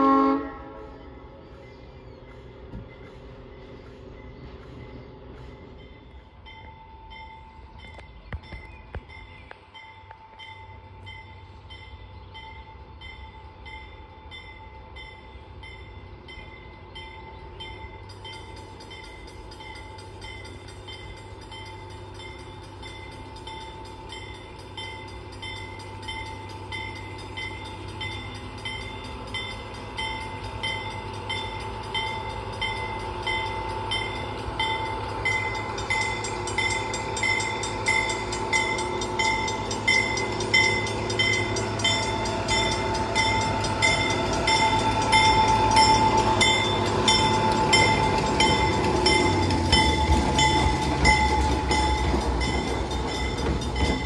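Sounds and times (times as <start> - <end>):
diesel locomotive engine rumble: 0.0 - 54.0
bell ringing: 5.7 - 54.0.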